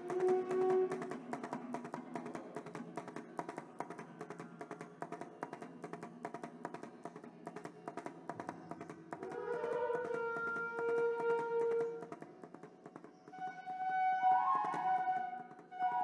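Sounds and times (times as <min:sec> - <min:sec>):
fast percussion strokes: 0:00.0 - 0:16.0.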